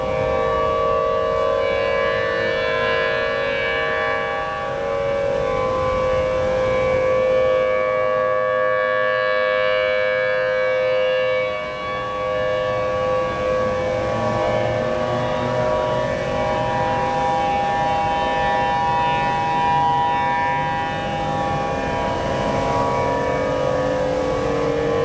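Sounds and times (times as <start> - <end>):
warning sirens steady tone: 0.0 - 25.0.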